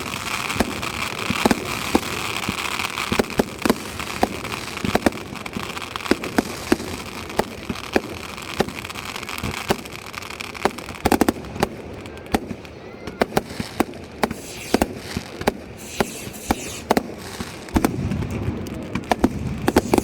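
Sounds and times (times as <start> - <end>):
crackling hiss: 0.0 - 20.0
fireworks cracking and popping: 0.0 - 20.0.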